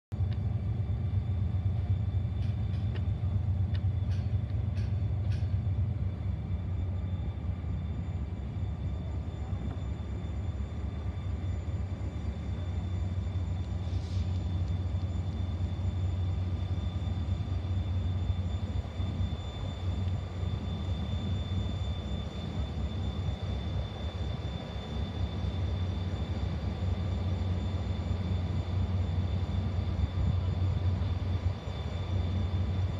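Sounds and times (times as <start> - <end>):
diesel locomotive idling: 0.1 - 32.9.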